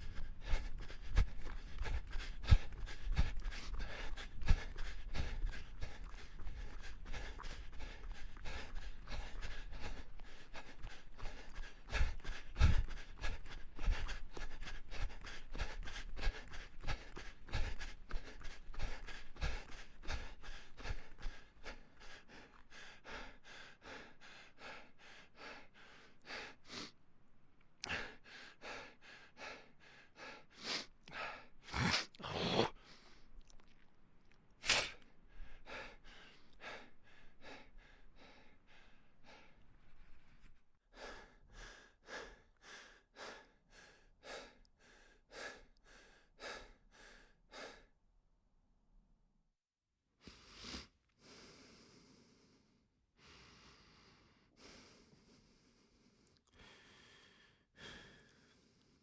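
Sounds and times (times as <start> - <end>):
person panting: 0.0 - 27.0, 27.8 - 33.3, 34.7 - 47.9, 50.2 - 59.0.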